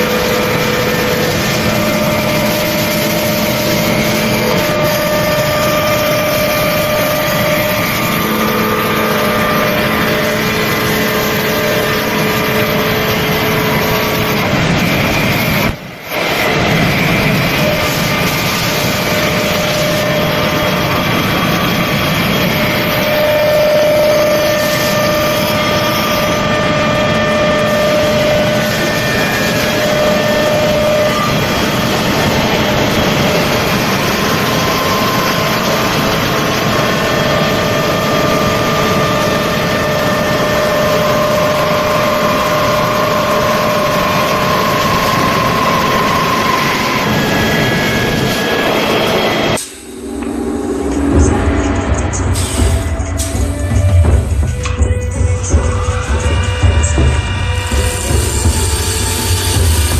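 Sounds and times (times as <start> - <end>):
wood lathe cutting: 0.0 - 59.9.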